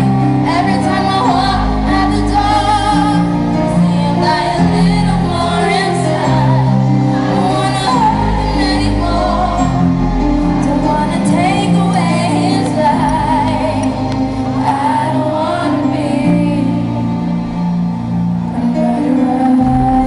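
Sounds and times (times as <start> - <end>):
keyboard and band chords: 0.0 - 20.0
woman singing: 0.4 - 17.4, 18.6 - 20.0.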